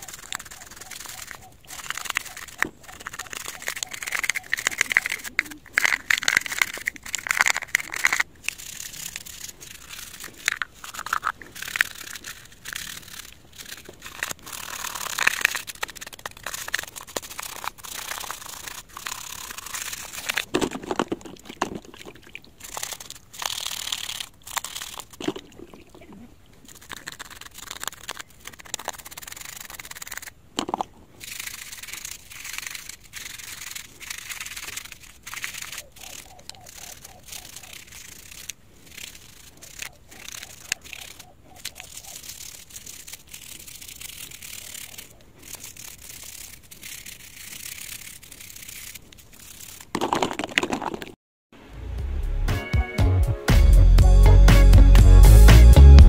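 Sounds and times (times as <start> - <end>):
toothbrush scrubbing plastic: 0.0 - 25.9, 26.6 - 51.2
water splashing in bowl: 0.0 - 45.1.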